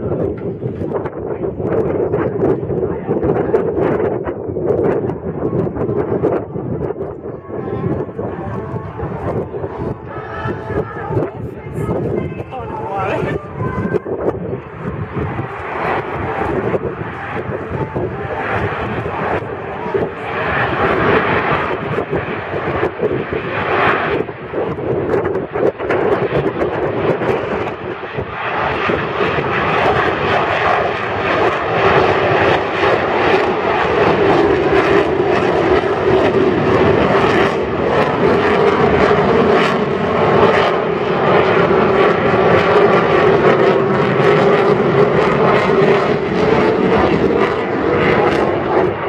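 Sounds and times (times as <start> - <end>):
jet aircraft engines roaring: 0.0 - 49.0.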